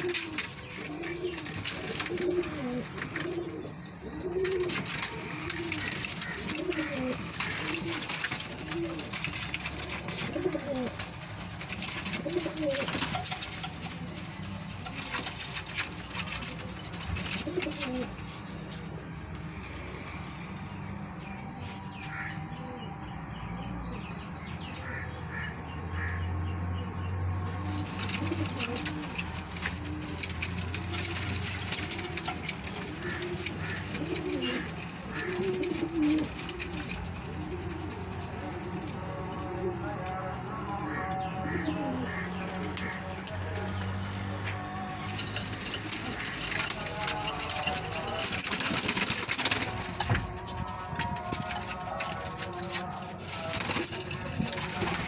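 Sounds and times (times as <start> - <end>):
pigeons cooing: 0.0 - 22.8, 27.2 - 55.0.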